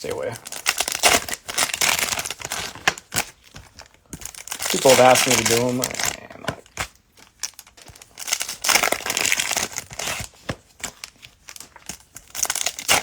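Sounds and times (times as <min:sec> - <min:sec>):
cellophane wrapper crinkling and tearing: 0:00.0 - 0:13.0.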